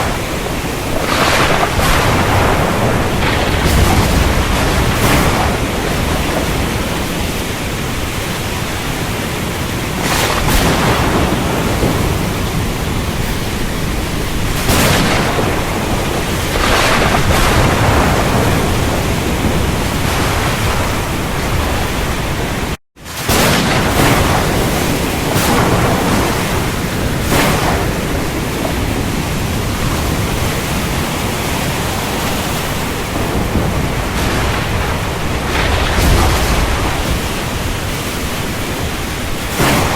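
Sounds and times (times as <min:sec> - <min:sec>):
heavy rain hissing: 0:00.0 - 0:39.9
thunder cracks and rolls: 0:00.0 - 0:39.9.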